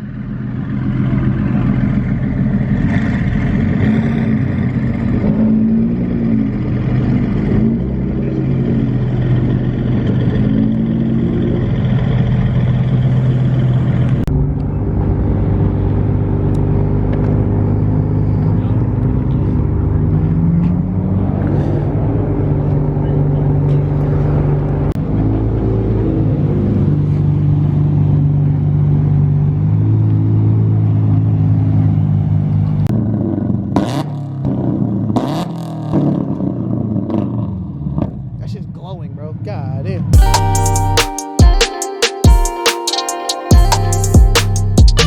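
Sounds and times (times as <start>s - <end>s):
car engines humming: 0.0s - 45.0s.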